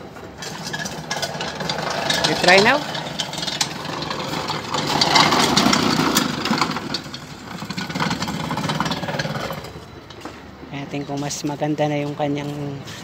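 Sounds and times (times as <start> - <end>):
lawn mower engine running: 0.0 - 10.6.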